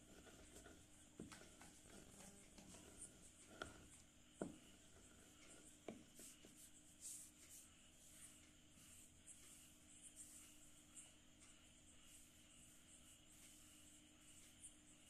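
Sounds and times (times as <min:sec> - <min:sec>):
chalk scraping on hard surface: 0:00.0 - 0:11.2, 0:12.0 - 0:15.0.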